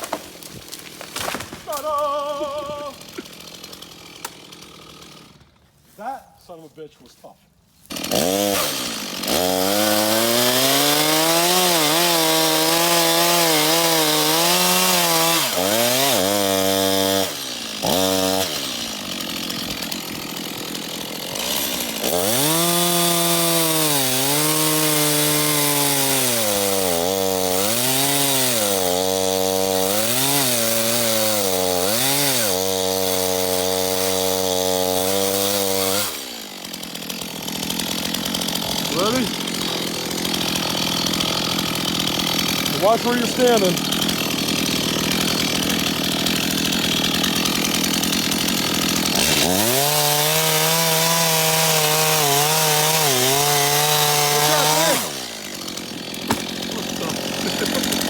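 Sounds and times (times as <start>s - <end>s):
chainsaw cutting wood: 0.0s - 6.6s, 7.7s - 58.0s.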